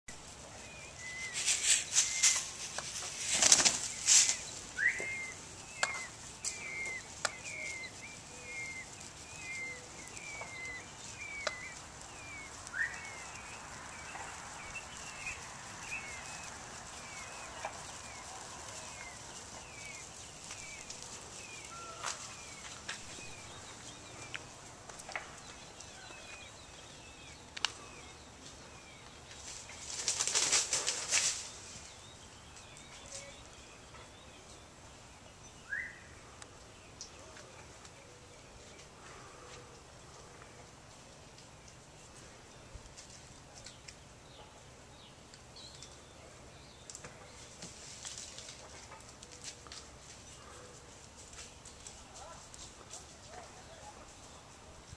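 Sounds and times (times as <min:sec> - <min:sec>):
bird chirping: 0:00.1 - 0:52.4.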